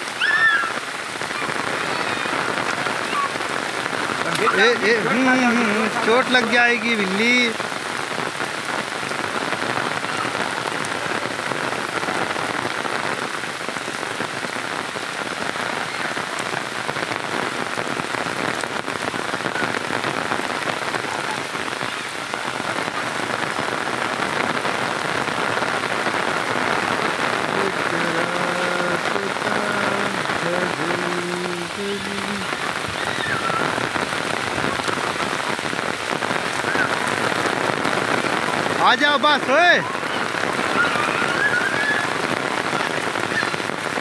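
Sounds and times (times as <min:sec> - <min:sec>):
heavy rain on standing water: 0:00.0 - 0:44.0.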